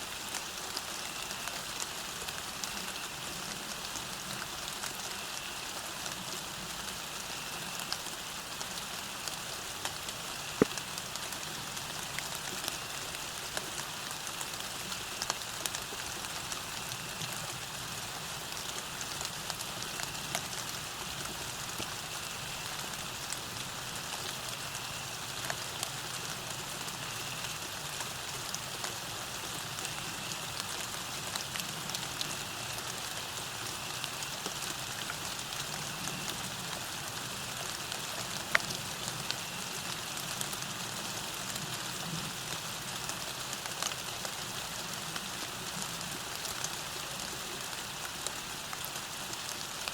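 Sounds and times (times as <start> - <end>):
rain falling on a road: 0.0 - 49.9.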